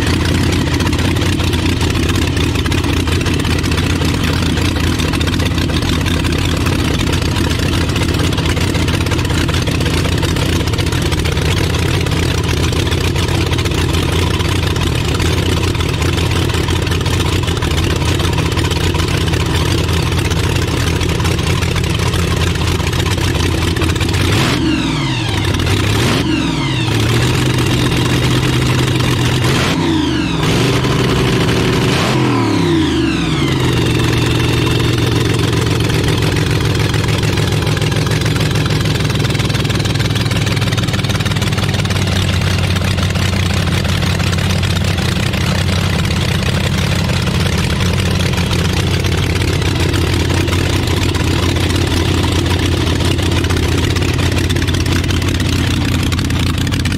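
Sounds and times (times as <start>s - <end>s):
dragster engine idling: 0.0s - 56.9s
dragster engine revving: 0.0s - 56.9s.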